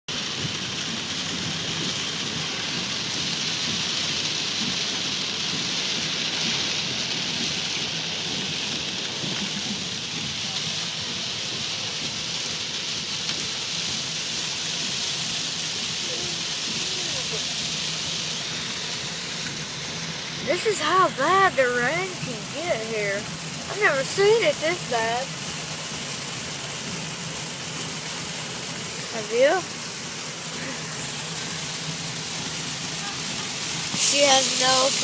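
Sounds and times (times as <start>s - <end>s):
heavy rain pouring: 0.1s - 35.0s.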